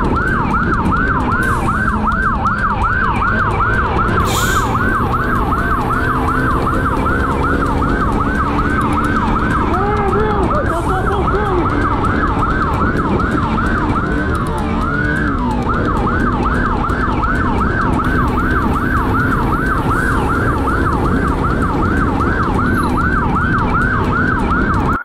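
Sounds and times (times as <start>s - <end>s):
motorcycle engine: 0.0s - 25.0s
police siren yelping: 0.0s - 25.0s.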